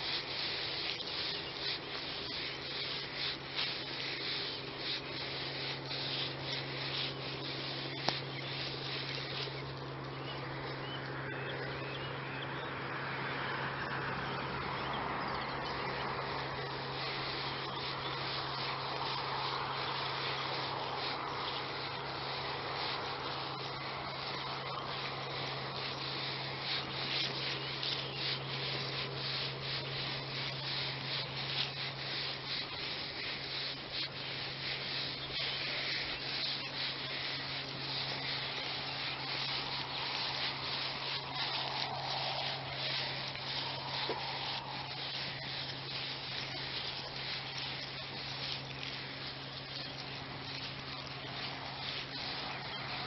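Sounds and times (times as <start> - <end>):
footsteps through long grass: 0.0 - 53.0
grass swishing: 0.0 - 53.0
low steady hum: 0.0 - 53.0.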